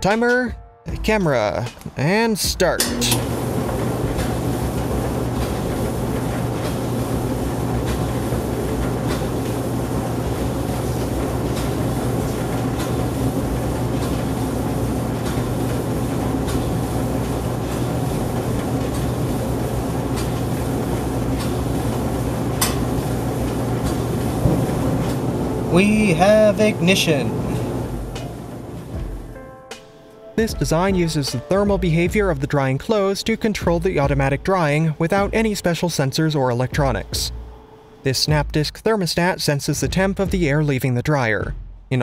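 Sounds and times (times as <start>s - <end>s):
clothes dryer motor hum: 0.9s - 38.7s.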